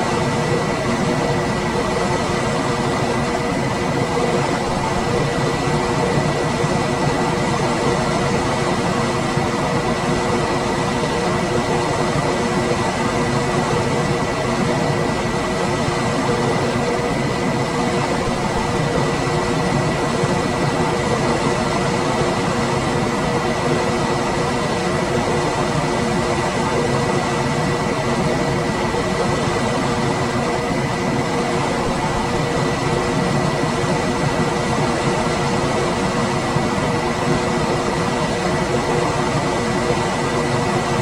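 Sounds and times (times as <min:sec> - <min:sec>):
air conditioner running: 0:00.0 - 0:41.0.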